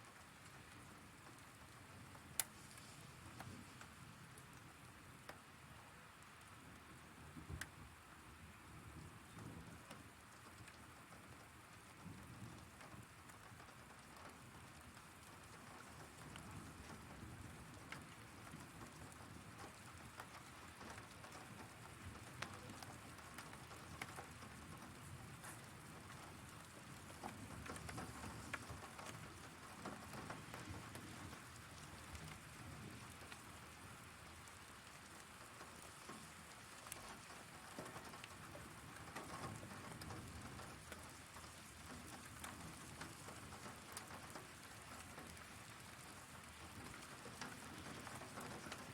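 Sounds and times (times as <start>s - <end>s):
heavy rain falling: 8.7s - 48.9s.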